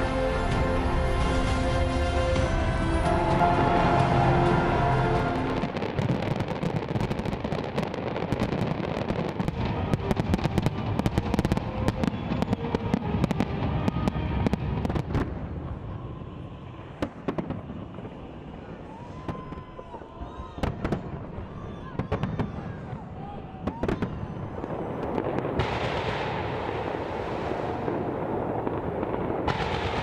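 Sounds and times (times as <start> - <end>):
fireworks bangs and crackle: 0.0 - 30.0.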